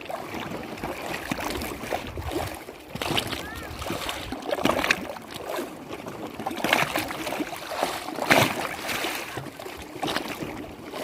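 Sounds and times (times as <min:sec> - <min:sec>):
lake water lapping and splashing: 0:00.0 - 0:11.0.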